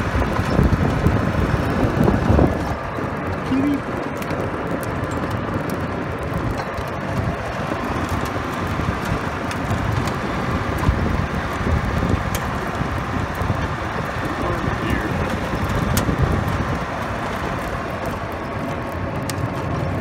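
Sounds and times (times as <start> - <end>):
golf cart driving on gravel: 0.0 - 20.0.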